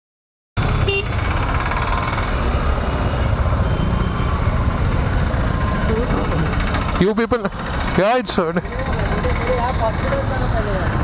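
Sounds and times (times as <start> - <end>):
vehicle engines running: 0.6 - 11.0.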